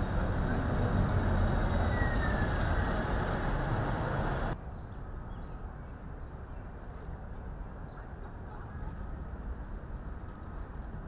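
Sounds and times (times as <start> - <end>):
quiet outdoor background: 0.0 - 11.0
vehicles passing with low rumble: 0.0 - 11.0.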